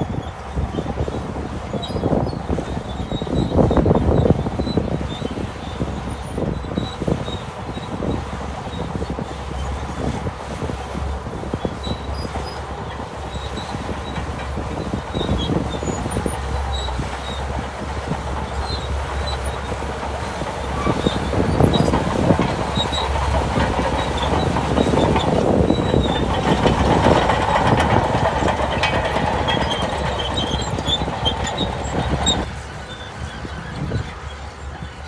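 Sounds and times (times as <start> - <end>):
bulldozer engine rumbling: 0.0 - 35.0
crawler tracks clattering: 0.0 - 35.0.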